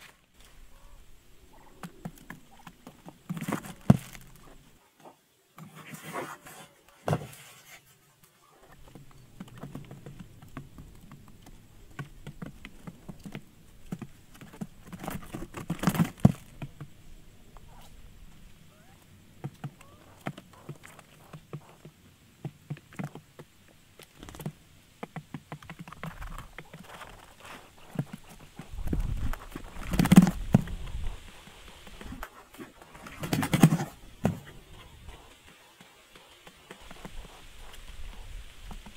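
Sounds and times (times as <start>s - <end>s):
birds pecking on cardboard: 1.5s - 4.7s, 5.6s - 18.5s, 19.3s - 38.9s.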